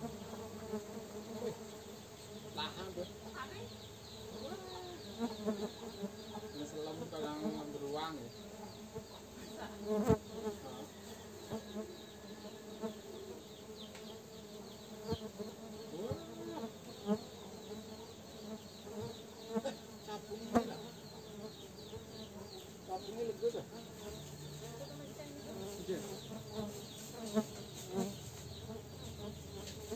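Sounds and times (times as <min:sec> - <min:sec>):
bees buzzing: 0:00.0 - 0:29.9.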